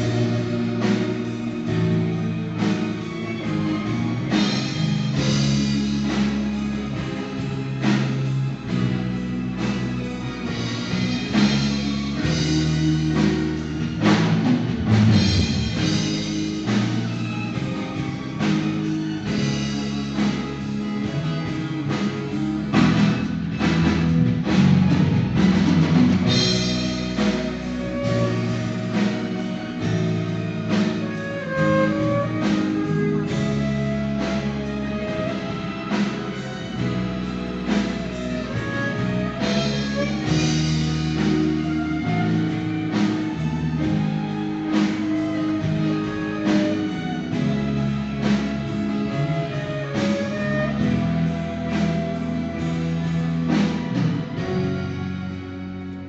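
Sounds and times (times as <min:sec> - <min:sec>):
drum hits: 0:00.0 - 0:54.5
bass line: 0:00.0 - 0:56.0
orchestra and band playing pop: 0:00.0 - 0:56.0
solo violin: 0:00.0 - 0:56.0.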